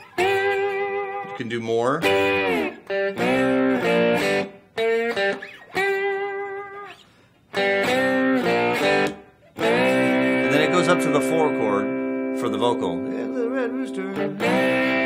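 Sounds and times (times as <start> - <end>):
slide electric guitar blues riff: 0.0 - 15.0.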